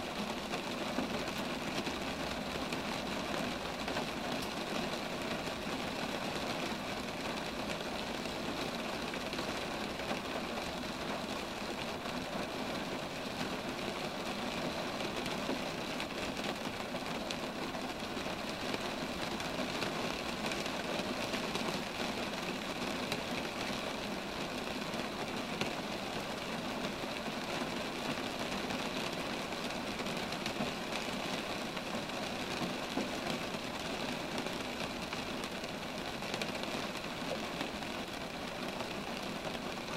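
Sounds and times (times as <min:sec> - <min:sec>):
rain falling among trees: 0:00.0 - 0:39.9.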